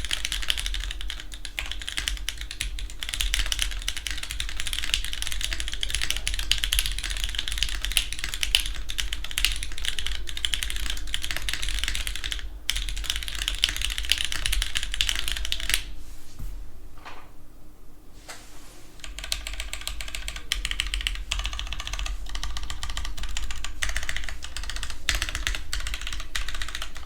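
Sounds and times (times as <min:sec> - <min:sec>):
typing on mechanical keyboard: 0:00.0 - 0:15.9, 0:19.0 - 0:27.0.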